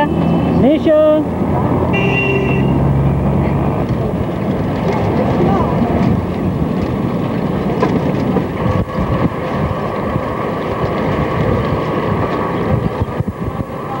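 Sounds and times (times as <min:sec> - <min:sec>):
rattling road noise: 0:00.0 - 0:14.0.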